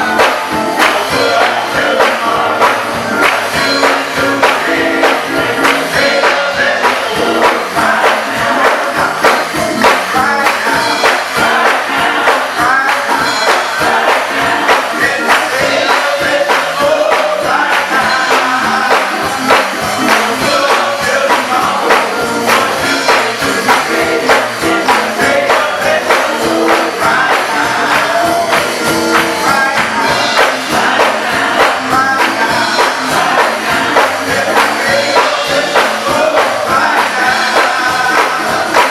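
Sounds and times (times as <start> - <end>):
gospel choir singing with band: 0.0 - 38.9
tambourine beat: 0.0 - 38.9.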